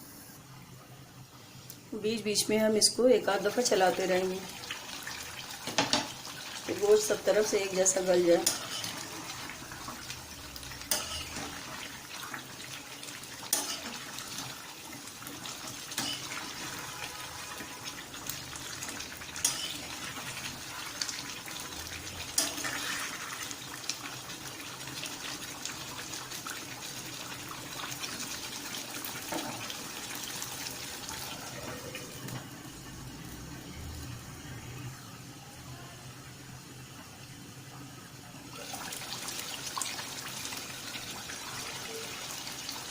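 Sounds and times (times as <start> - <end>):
food sizzling in a pot: 1.4 - 42.9.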